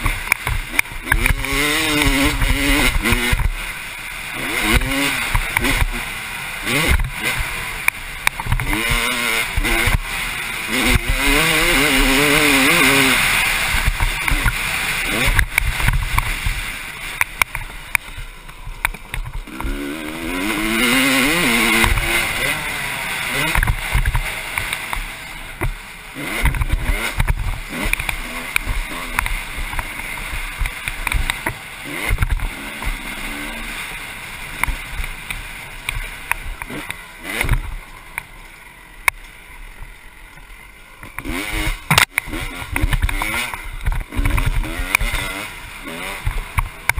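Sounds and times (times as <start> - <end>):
two-stroke motorbike engine revving: 0.0 - 46.9.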